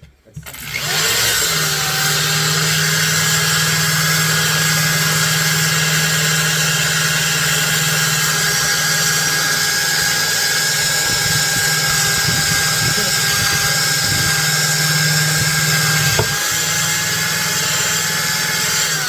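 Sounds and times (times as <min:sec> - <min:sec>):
electric power tool humming: 0:00.4 - 0:19.0.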